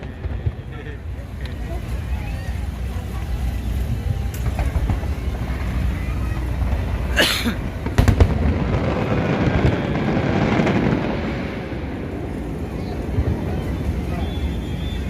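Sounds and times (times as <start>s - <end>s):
fireworks crackling burst: 0.0s - 15.0s
fireworks sharp bangs: 0.0s - 15.0s
steady rumble: 0.0s - 15.0s.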